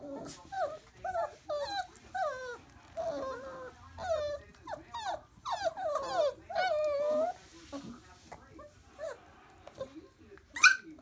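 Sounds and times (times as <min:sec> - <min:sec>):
puppies whimpering and whining: 0:00.0 - 0:11.0.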